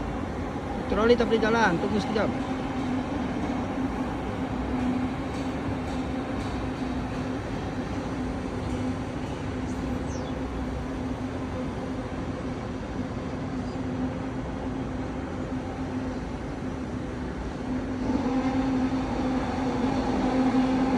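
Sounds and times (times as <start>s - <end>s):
heavy crane engine humming: 0.0s - 20.9s.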